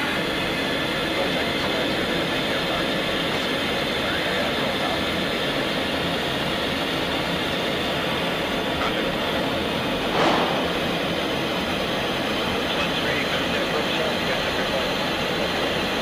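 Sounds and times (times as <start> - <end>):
jet cockpit rushing noise: 0.0 - 16.0.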